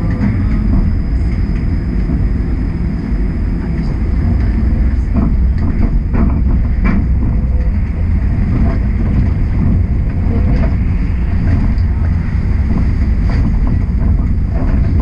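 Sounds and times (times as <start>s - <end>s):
streetcar rumbling on track: 0.0s - 15.0s.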